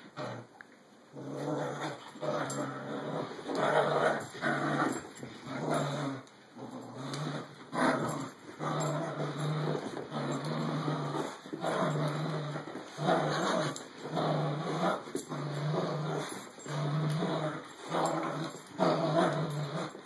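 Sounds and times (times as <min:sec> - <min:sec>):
dogs play-growling: 0:00.0 - 0:20.0.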